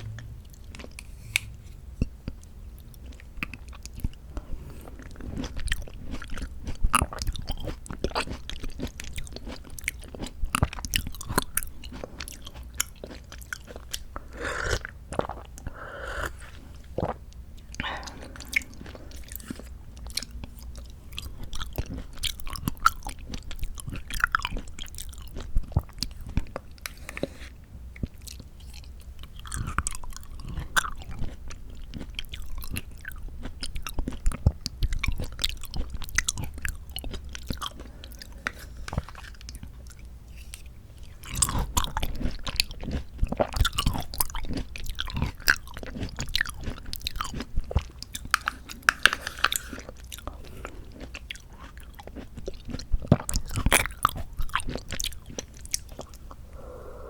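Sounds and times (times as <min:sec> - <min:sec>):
chewing with mouth clicks: 0:00.0 - 0:56.7.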